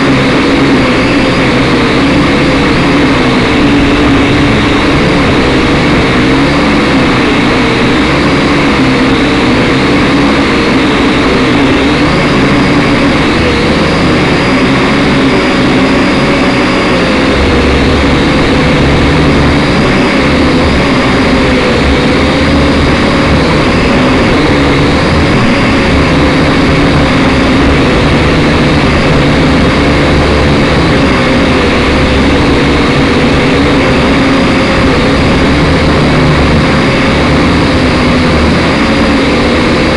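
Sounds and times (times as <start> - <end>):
drone propellers whining: 0.0 - 39.9
gusting wind rumble: 0.0 - 39.9.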